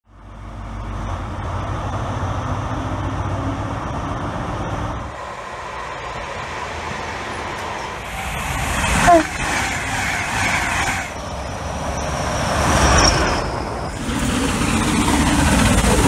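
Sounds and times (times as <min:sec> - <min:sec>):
diesel train engine hum: 0:00.1 - 0:16.0
electric train rushing rumble: 0:00.1 - 0:16.0.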